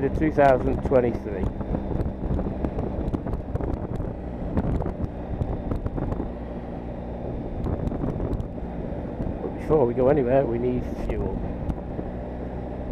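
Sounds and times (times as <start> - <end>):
motorcycle engine droning: 0.0 - 12.9
wind buffeting microphone: 0.0 - 12.9.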